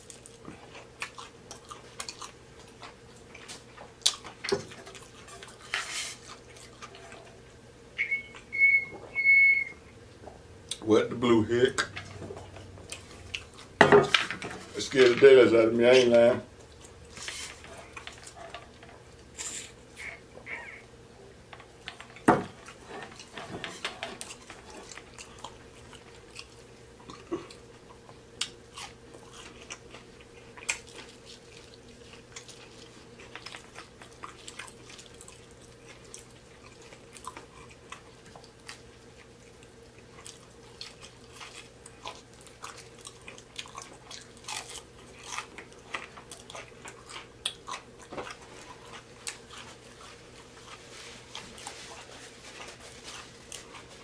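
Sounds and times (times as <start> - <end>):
crunchy chewing: 0.0 - 8.8, 11.7 - 13.8, 15.9 - 20.8, 21.6 - 54.0
faint steady hum: 0.0 - 54.0.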